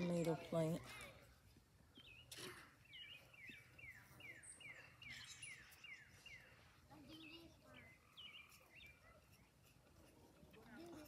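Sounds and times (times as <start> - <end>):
songbird singing: 1.8 - 11.0.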